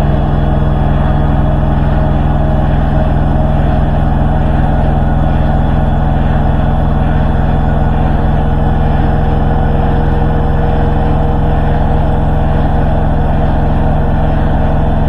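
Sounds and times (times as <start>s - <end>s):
washing machine spin cycle hum: 0.0s - 15.0s.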